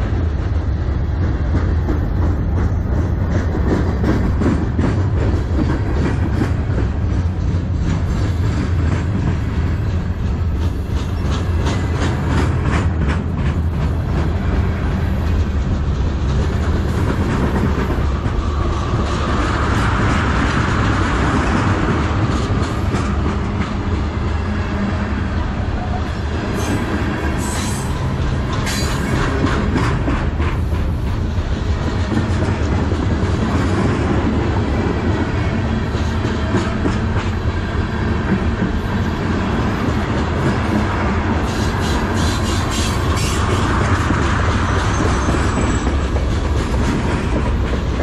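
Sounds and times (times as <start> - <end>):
train wheels rumbling on rail: 0.0 - 48.0
wheels clacking over rail joints: 0.0 - 48.0.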